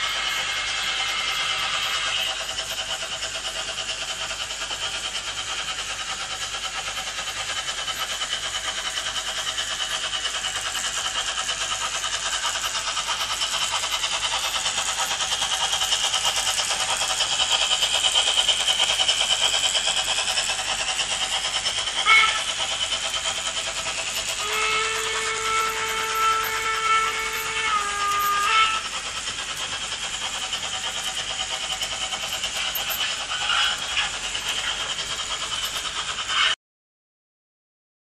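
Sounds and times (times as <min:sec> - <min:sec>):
model train motor whine: 0:00.0 - 0:36.6
model train rolling clatter: 0:00.0 - 0:36.6.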